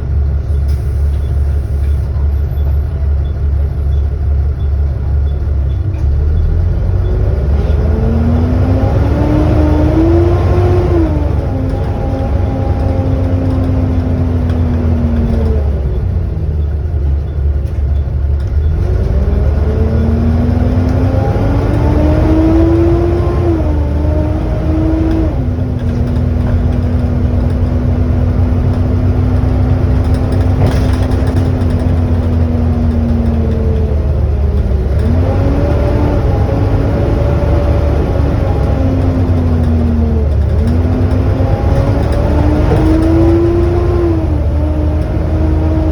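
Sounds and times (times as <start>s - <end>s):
bus drivetrain whine: 0.0s - 45.9s
bus engine rumble: 0.0s - 45.9s.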